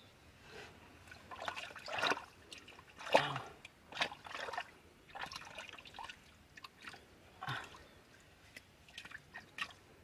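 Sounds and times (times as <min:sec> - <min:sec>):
wet squelching of mud and water: 0:01.0 - 0:09.9.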